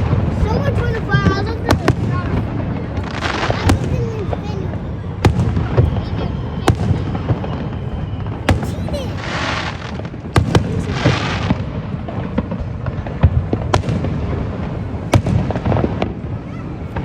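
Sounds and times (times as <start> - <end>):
fireworks bursting with bangs: 0.0 - 17.0.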